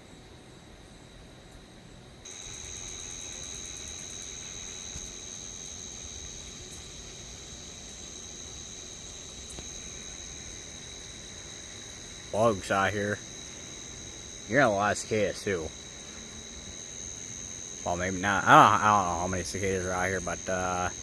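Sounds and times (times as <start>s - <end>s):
night insects buzzing: 0.0s - 21.0s.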